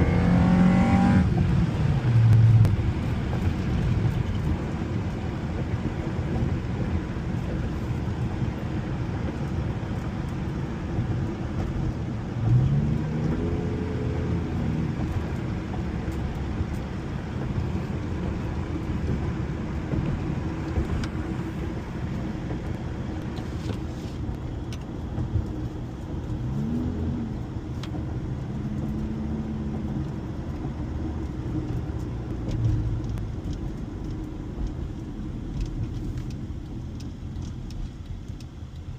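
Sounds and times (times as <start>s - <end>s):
car engine accelerating: 0.0s - 7.6s, 8.3s - 38.9s
road noise: 0.0s - 38.9s.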